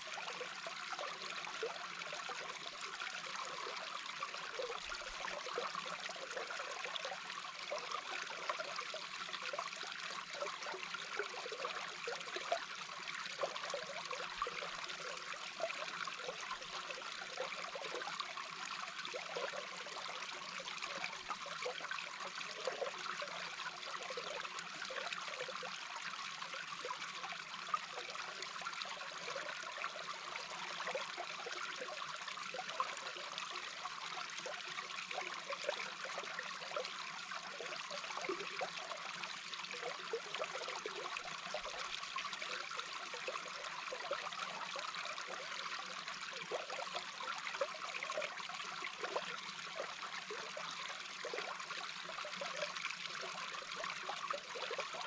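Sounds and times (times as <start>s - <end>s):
brook heard underwater: 0.0s - 55.0s.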